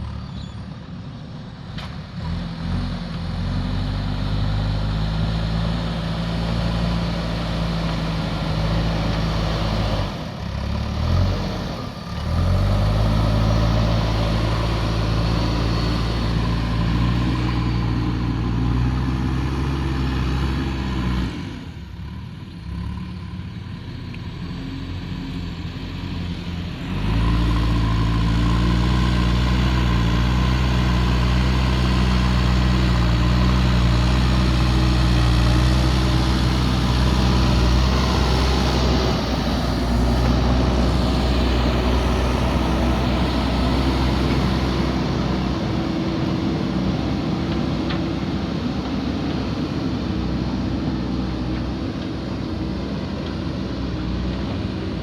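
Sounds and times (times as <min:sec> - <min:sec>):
diesel engine working: 0:00.0 - 0:55.0.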